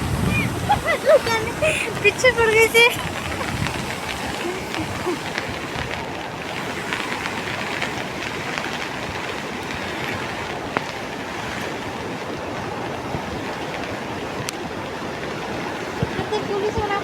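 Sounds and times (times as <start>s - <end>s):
river rushing in flood: 0.0s - 17.0s.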